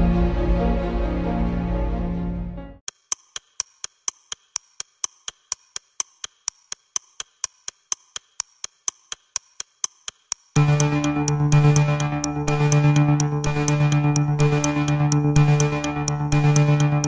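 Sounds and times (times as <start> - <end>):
high-pitched ticking: 2.9 - 17.0.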